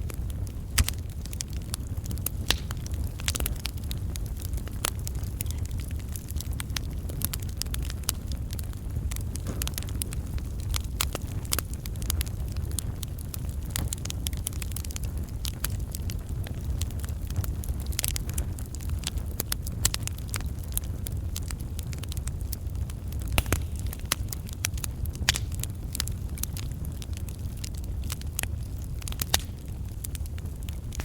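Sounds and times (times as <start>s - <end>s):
campfire logs crackling: 0.0s - 31.0s
low rumble of flames: 0.0s - 31.0s.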